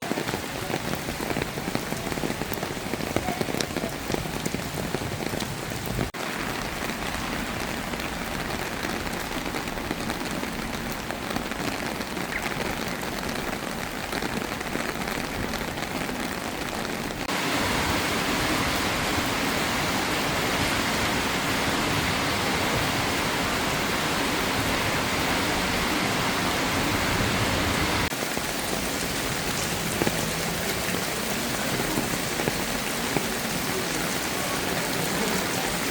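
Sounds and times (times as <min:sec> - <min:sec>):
rain falling and splashing: 0:00.0 - 0:35.9.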